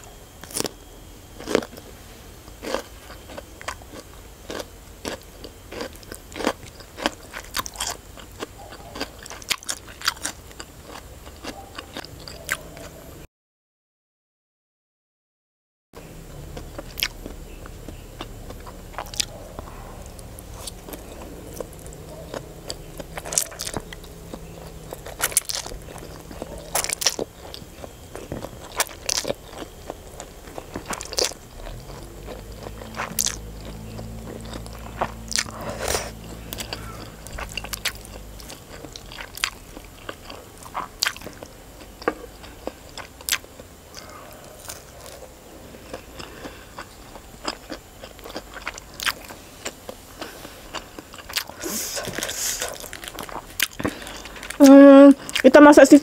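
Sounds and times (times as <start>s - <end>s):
crunchy bites: 0.0s - 13.0s, 16.3s - 55.5s
chewing and slurping noodles: 2.5s - 13.0s, 16.6s - 54.6s.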